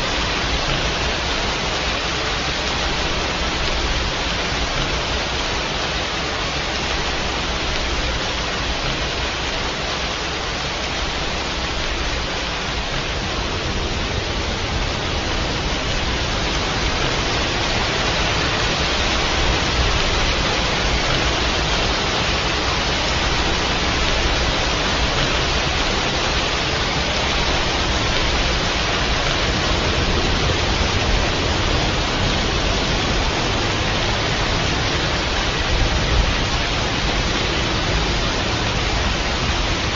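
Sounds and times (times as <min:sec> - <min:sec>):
steady dense rainfall: 0:00.0 - 0:39.9.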